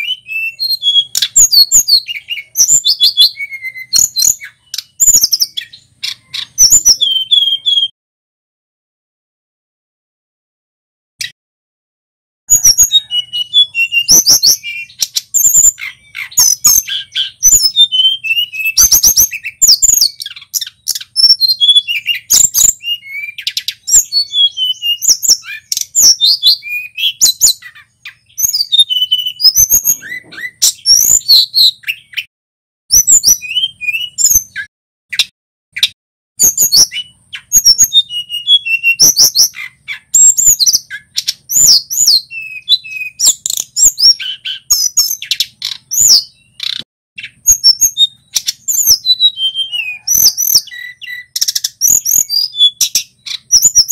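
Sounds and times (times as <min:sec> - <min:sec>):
bird whistles and chirps: 0:00.0 - 0:07.9, 0:12.5 - 0:32.3, 0:32.9 - 0:53.9.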